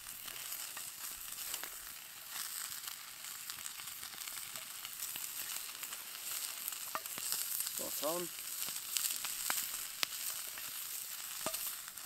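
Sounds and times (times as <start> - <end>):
mushrooms sizzling in a skillet: 0.0 - 12.0.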